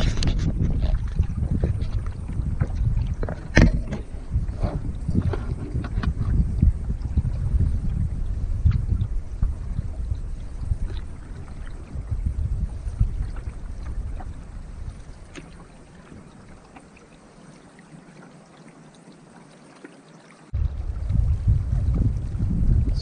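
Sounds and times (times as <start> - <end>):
wind rumble on microphone: 0.0 - 17.1, 20.5 - 23.0
water splashing around canoe: 0.0 - 22.8.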